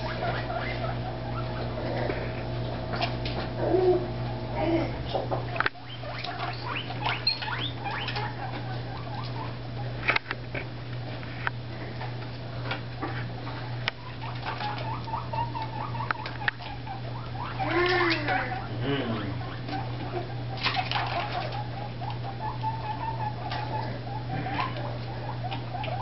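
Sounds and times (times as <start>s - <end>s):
guinea pigs squeaking: 0.0s - 10.7s, 11.7s - 26.0s.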